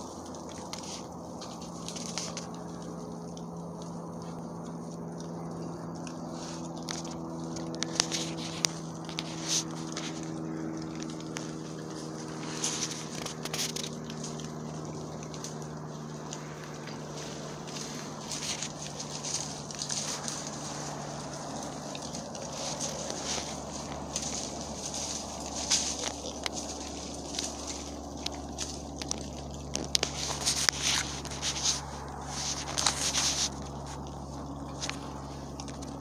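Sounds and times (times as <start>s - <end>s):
hogs rustling in dry leaves: 0.0s - 36.0s
low hum: 0.0s - 36.0s.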